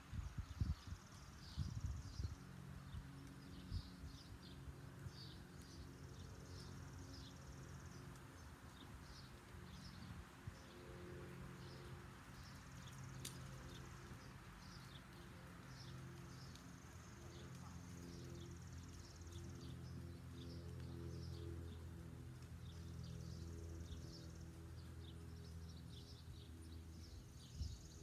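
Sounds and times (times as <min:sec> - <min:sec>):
songbirds chirping: 0:00.1 - 0:28.0.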